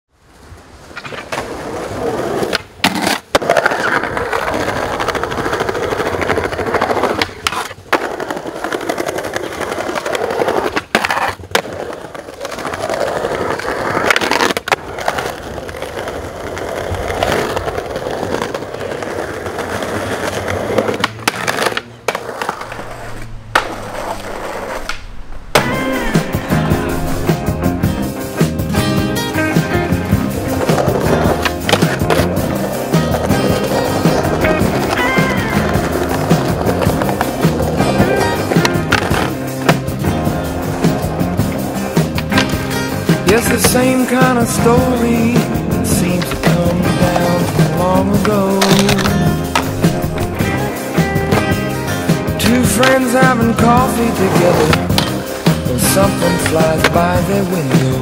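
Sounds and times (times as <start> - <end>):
skateboard wheels rolling on stone: 0.2 - 58.0
skateboard clacks: 0.9 - 27.5, 28.3 - 58.0.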